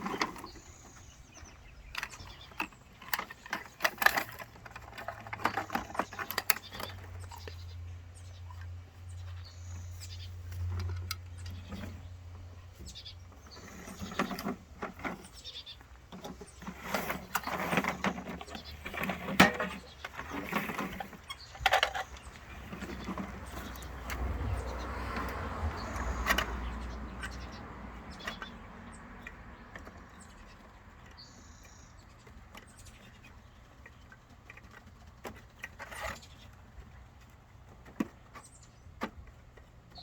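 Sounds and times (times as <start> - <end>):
clanks knocks and squeaks: 0.0 - 7.8, 8.5 - 40.0.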